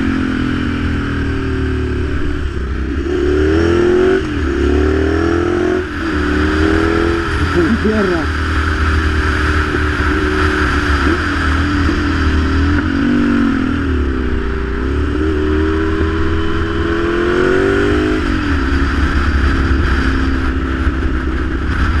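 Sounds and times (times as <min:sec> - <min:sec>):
motorcycle engine: 0:00.0 - 0:22.0
wind rumble on microphone: 0:00.0 - 0:22.0.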